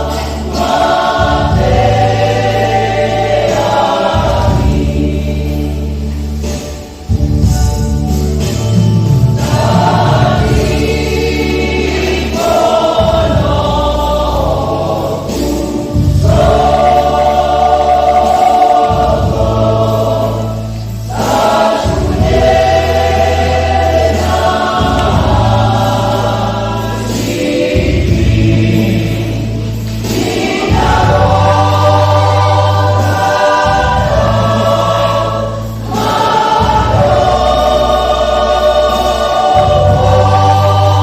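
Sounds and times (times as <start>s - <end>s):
church choir singing a hymn: 0.0s - 41.0s.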